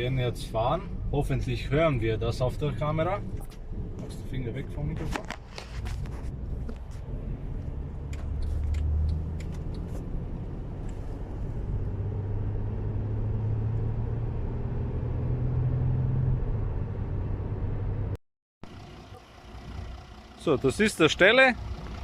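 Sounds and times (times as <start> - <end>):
car engine and road drone: 0.0 - 22.0.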